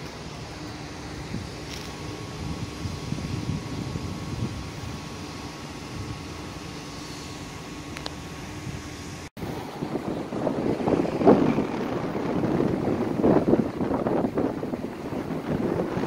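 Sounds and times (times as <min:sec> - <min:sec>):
low outdoor rumble: 0:00.0 - 0:16.0
wind buffeting microphone: 0:00.0 - 0:16.0.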